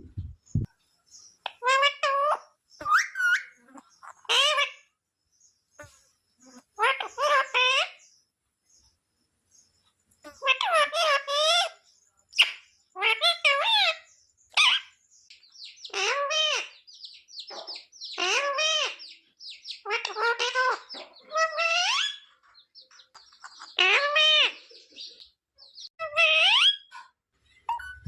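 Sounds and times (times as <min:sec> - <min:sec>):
parrot calling and chirping: 0:00.6 - 0:04.9, 0:05.8 - 0:08.1, 0:10.2 - 0:28.0.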